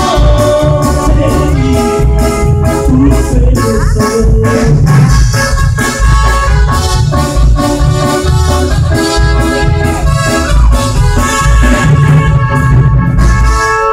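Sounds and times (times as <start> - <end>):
accordion dance music with bass: 0.0 - 13.9.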